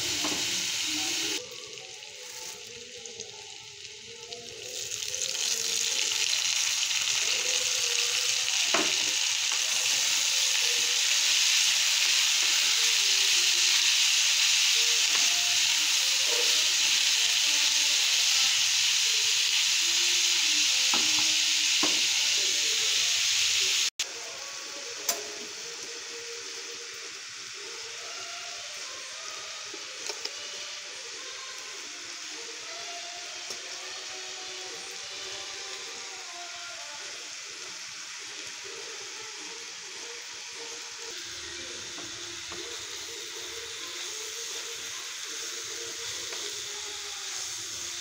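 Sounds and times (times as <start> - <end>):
vegetables sizzling in oil: 0.0 - 48.0.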